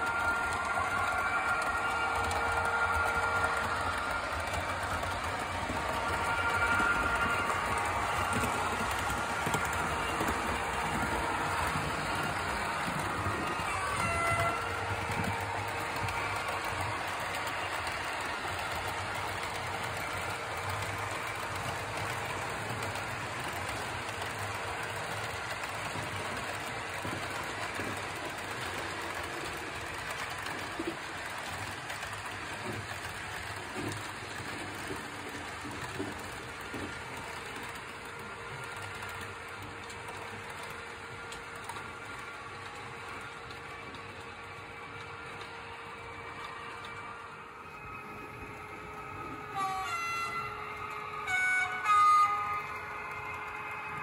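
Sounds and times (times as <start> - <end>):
model train running hiss and hum: 0.0 - 54.0
small clicks of model train: 6.1 - 47.2, 49.5 - 54.0.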